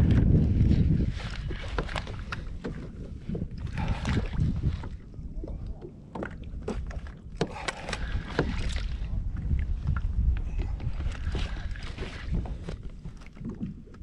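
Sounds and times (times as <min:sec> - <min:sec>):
water sloshing against kayak: 0:00.0 - 0:14.0
wind buffeting microphone: 0:00.0 - 0:14.0.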